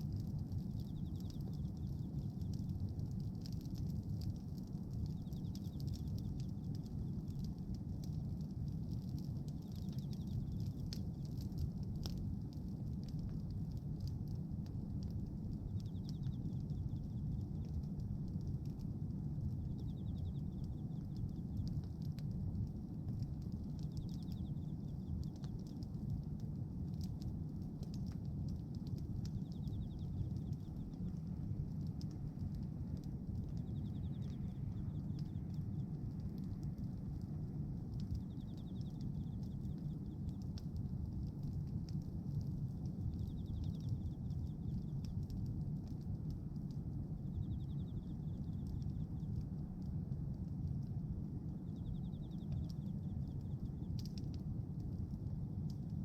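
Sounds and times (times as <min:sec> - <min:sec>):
bonfire crackling and popping: 0:00.0 - 0:56.0
steady low rumble: 0:00.0 - 0:56.0.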